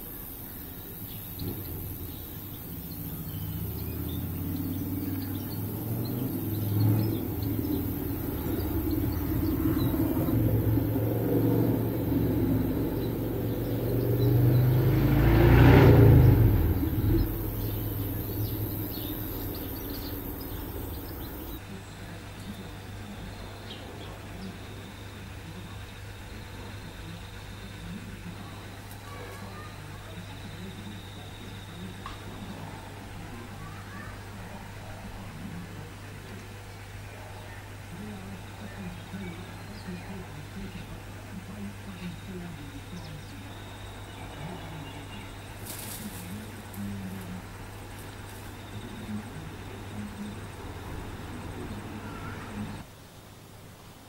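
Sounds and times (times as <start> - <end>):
faint bird chirps: 0.0 - 15.2, 15.8 - 35.0, 36.3 - 52.8
passing vehicle rumble: 0.0 - 52.9.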